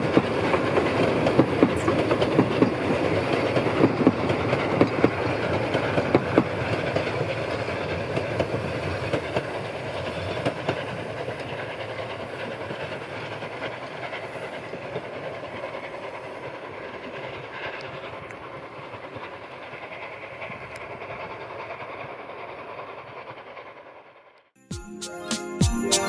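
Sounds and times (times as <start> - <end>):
train wheels clacking on rails: 0.0 - 24.4
train rumble: 0.0 - 24.5.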